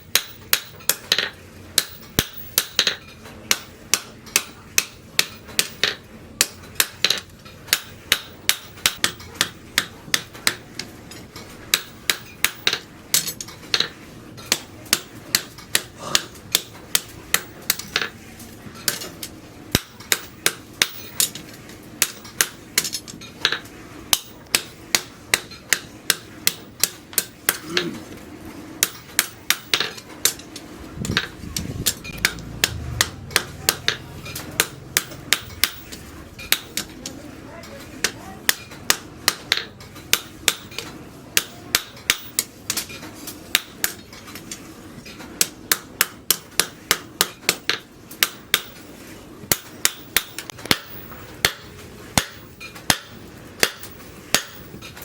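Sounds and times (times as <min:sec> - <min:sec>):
hammer striking steel on anvil: 0:00.0 - 0:18.2, 0:18.9 - 0:28.0, 0:28.8 - 0:30.5, 0:31.1 - 0:37.0, 0:38.0 - 0:42.8, 0:43.5 - 0:44.0, 0:45.4 - 0:48.8, 0:49.5 - 0:55.0.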